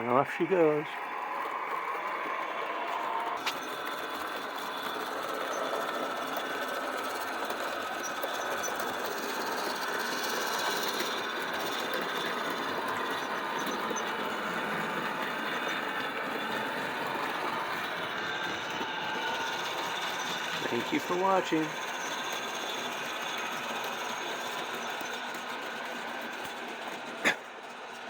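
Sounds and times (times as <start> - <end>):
model train motor whir: 0.0 - 28.0
wheels rolling on rail: 0.0 - 28.0.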